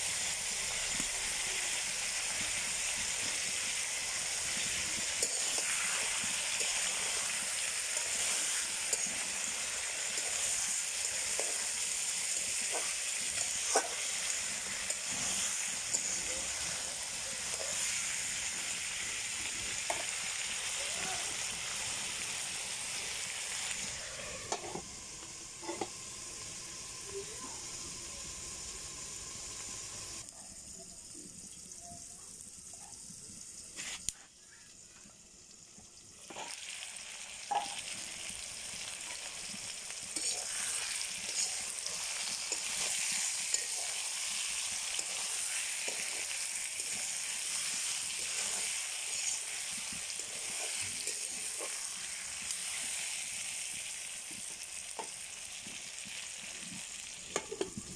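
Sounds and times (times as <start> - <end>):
food frying in oil: 0.0 - 57.9.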